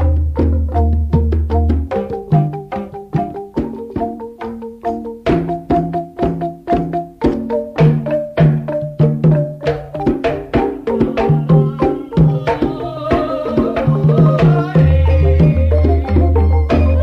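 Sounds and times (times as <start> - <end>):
bamboo xylophones ringing notes: 0.0 - 17.0
hand drum: 0.0 - 17.0
held higher notes: 0.0 - 17.0.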